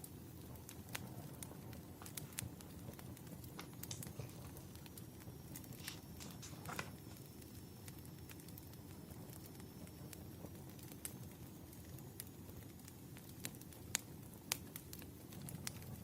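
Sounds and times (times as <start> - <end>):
wood fire popping and crackling: 0.0 - 16.0.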